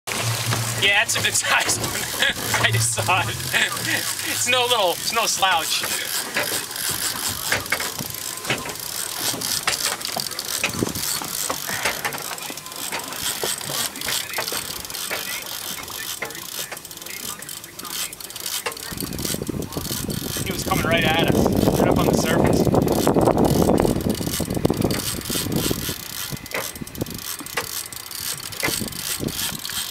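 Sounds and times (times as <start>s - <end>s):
fishing reel drag ratcheting clicks: 0.4s - 29.9s.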